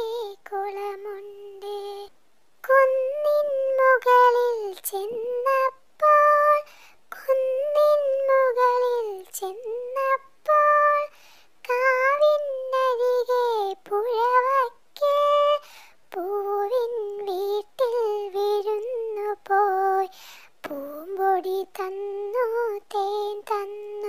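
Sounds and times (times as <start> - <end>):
high voice singing a children's rhyme: 0.0 - 24.0.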